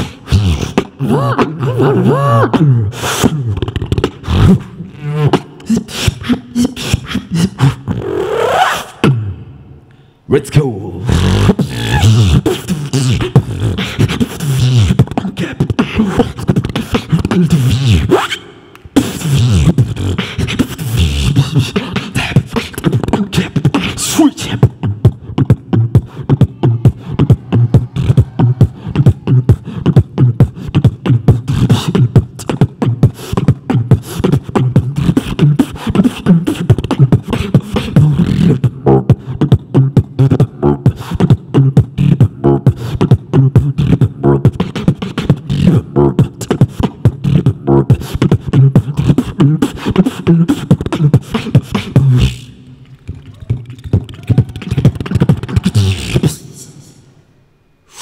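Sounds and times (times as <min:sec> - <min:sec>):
person beatboxing into microphone: 0:00.0 - 0:57.2.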